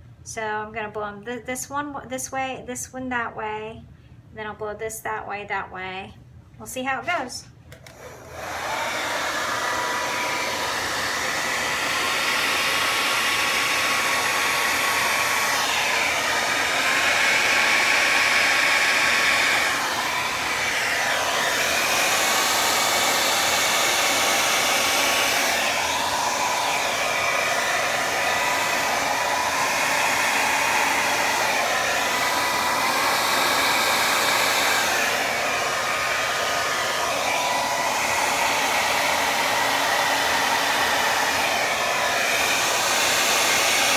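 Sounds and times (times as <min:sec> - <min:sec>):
hair dryer running: 0:07.0 - 0:43.9.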